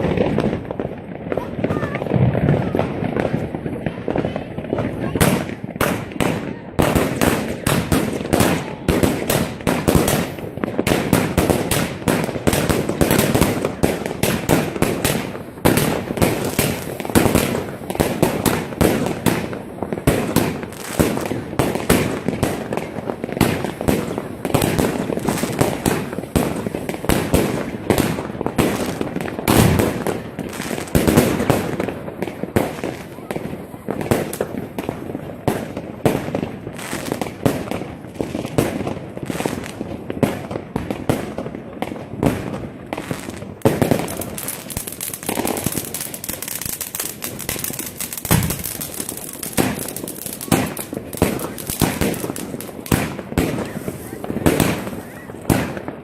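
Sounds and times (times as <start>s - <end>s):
fireworks and firecrackers: 0.0s - 56.0s.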